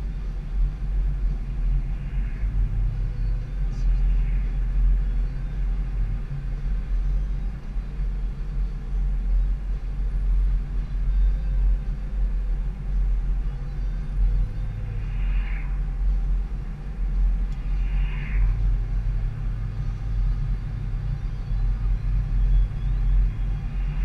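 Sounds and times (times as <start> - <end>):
car cabin engine and tyre rumble: 0.0 - 24.0.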